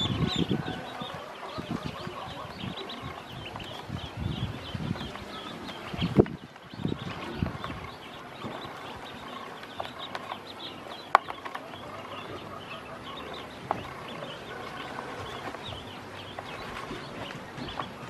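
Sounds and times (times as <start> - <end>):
ducklings peeping: 0.0 - 18.0.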